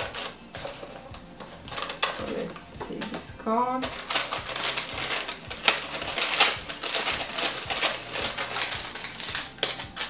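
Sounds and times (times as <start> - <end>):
tissue paper rustling: 0.0 - 3.2, 3.8 - 10.0.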